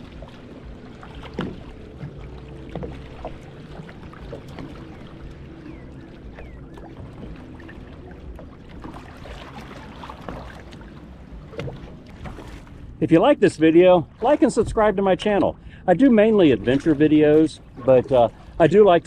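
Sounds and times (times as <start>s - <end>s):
paddle strokes splashing water: 0.0s - 19.0s
small waves lapping: 0.0s - 19.0s
steady wash of water: 0.0s - 19.0s.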